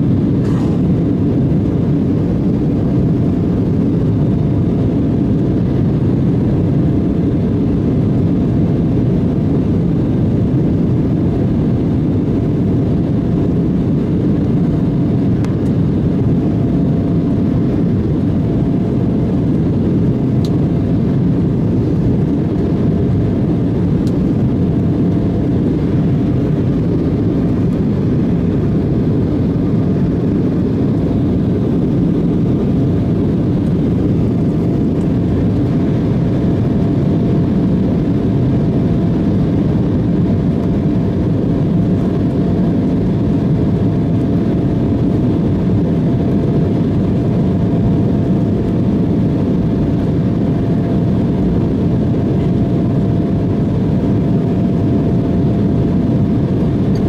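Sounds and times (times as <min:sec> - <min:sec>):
jet engines and airflow rush: 0:00.0 - 0:57.0.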